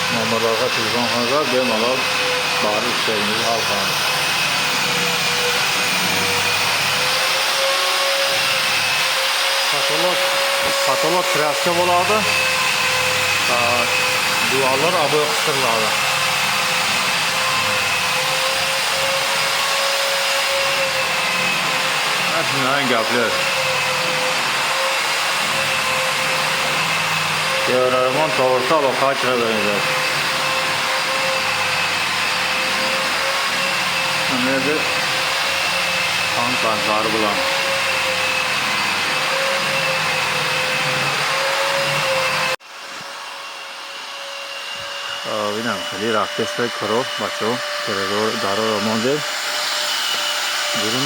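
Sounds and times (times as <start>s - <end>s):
electric motor whining: 0.0s - 51.0s.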